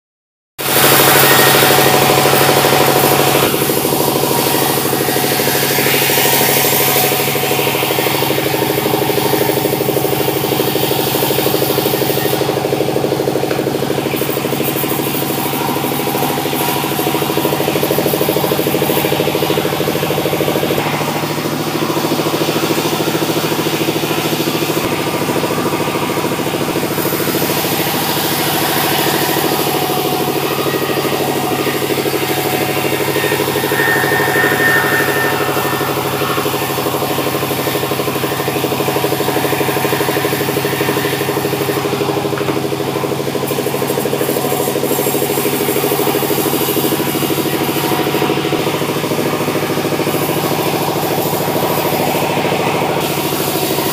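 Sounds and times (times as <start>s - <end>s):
sawmill machinery running: 0.6s - 53.9s.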